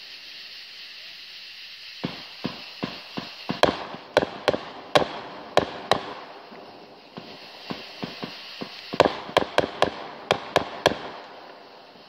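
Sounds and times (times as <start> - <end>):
fireworks bangs: 1.9 - 12.0.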